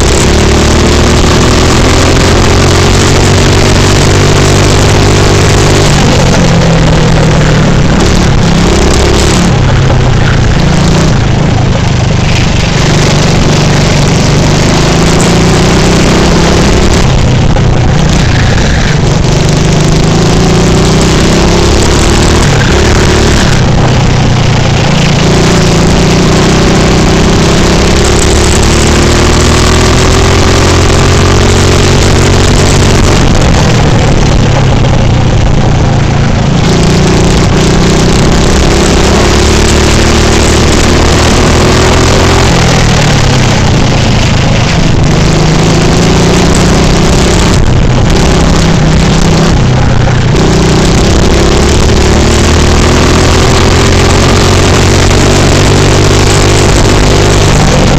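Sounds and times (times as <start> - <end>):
go-kart engine at full throttle: 0.0 - 57.9.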